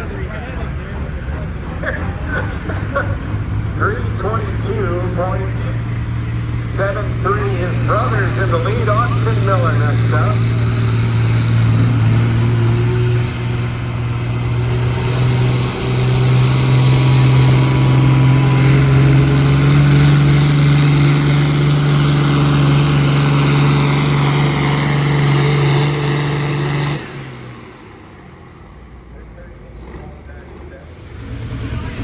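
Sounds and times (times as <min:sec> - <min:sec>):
vehicle engine under load: 0:00.0 - 0:32.0.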